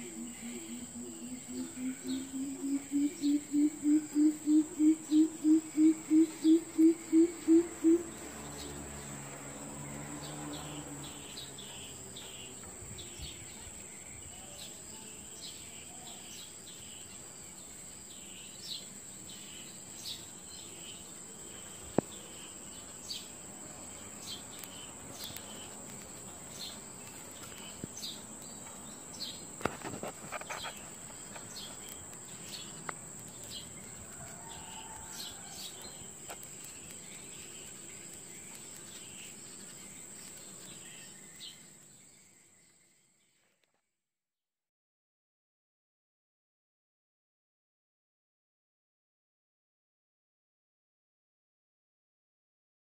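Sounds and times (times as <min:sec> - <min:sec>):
high insect drone: 0:00.0 - 0:43.4.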